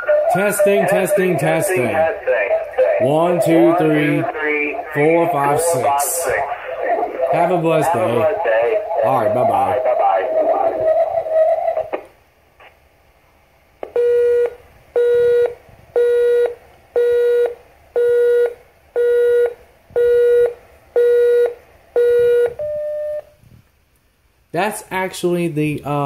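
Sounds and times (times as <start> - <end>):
pulsing answering machine tone: 0.0 - 11.9, 14.0 - 23.3.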